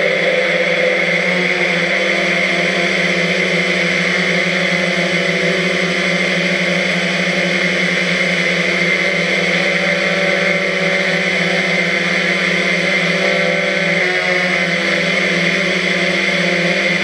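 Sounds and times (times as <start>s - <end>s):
drone propellers whirring: 0.0s - 17.0s.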